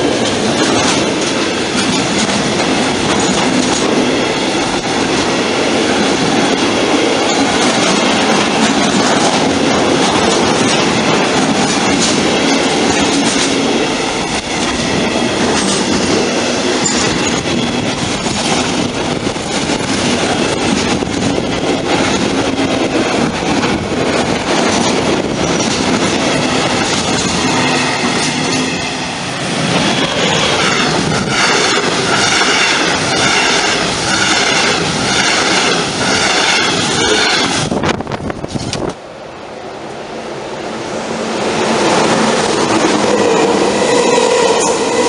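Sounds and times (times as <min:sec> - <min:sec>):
rhythmic train wheel clatter: 0:00.0 - 0:38.9, 0:41.5 - 0:45.0
freight train passing: 0:00.0 - 0:45.0
high-speed train passing: 0:00.0 - 0:45.0.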